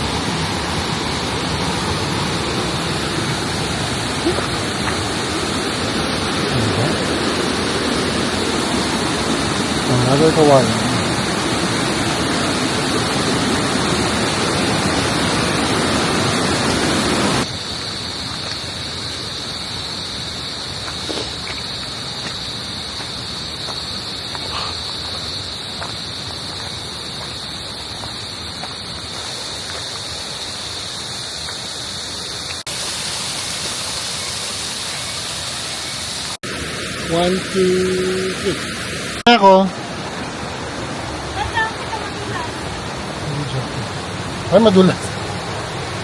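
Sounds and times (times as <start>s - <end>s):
high-pitched hiss: 0.0s - 46.0s
mountain stream rushing: 0.0s - 46.0s.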